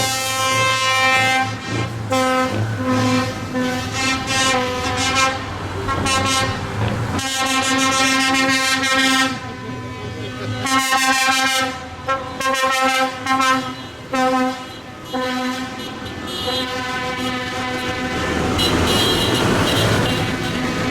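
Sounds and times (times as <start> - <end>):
vehicle air horn blasts: 0.0 - 20.8.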